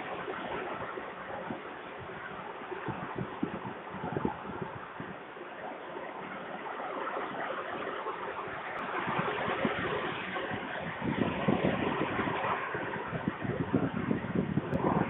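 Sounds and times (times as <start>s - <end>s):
low wind buffeting: 0.0s - 15.0s
wind rushing on microphone: 0.0s - 15.0s.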